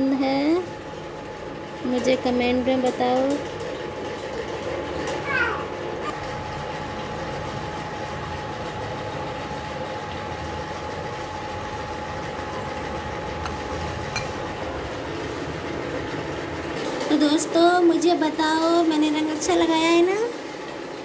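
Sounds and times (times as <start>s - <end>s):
electric fan whirring: 0.0s - 21.0s.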